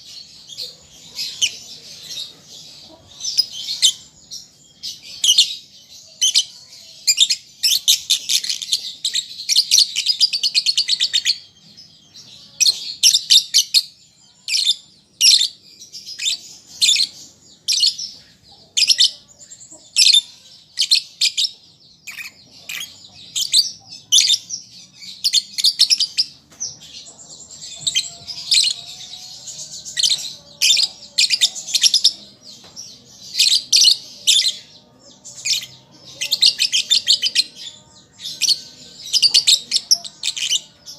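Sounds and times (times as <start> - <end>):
lovebird chirping: 0.0 - 40.9.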